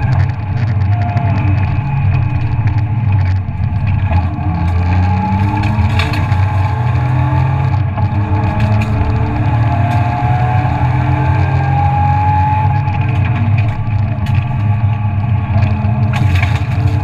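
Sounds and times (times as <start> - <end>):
car engine running hard: 0.0 - 17.0
tyre and road noise: 0.0 - 17.0.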